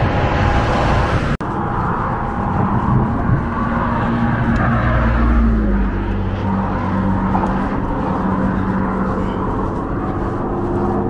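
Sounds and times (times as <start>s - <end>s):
road traffic drone: 0.0s - 11.0s.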